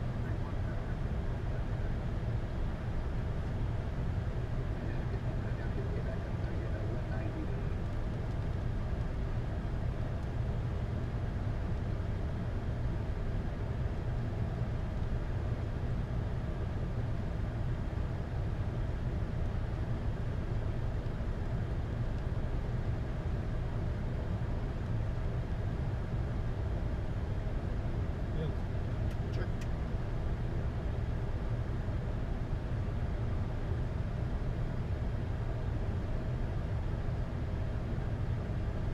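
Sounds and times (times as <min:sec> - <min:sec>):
aircraft cockpit low rumble: 0:00.0 - 0:38.9.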